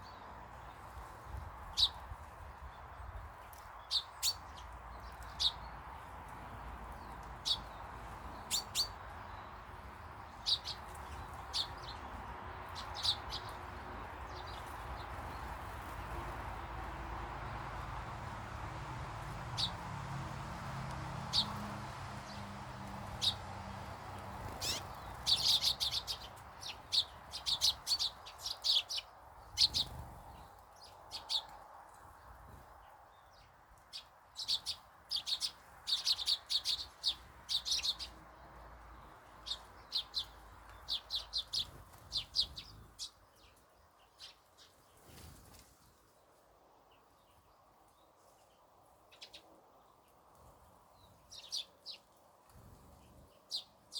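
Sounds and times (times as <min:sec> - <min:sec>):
small birds chirping: 0:00.0 - 0:18.4, 0:19.2 - 0:19.9, 0:20.6 - 0:53.9.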